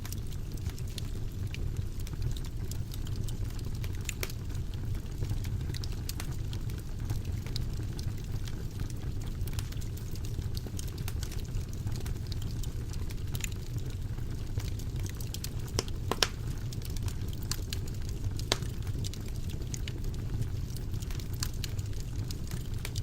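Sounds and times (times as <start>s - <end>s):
fire flames rumbling: 0.0s - 23.0s
wood fire crackles and pops: 0.0s - 23.0s.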